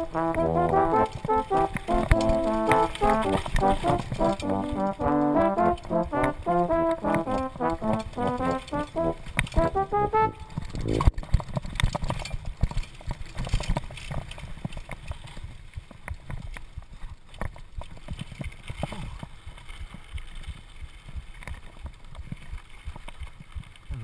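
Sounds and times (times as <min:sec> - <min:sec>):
bike rattling over rough trail: 0:00.0 - 0:24.0.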